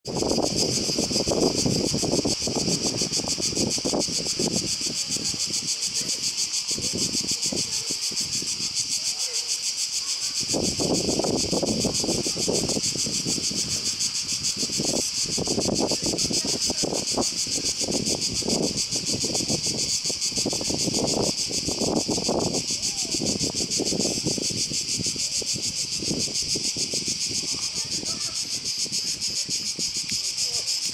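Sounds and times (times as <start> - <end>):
cicadas pulsing buzz: 0.0 - 30.9.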